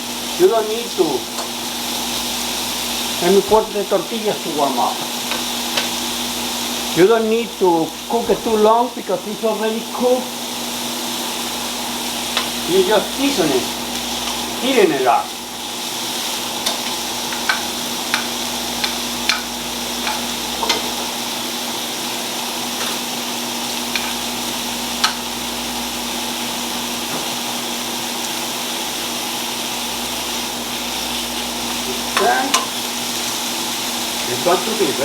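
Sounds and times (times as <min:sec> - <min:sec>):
meat sizzling in hot oil: 0:00.0 - 0:35.0.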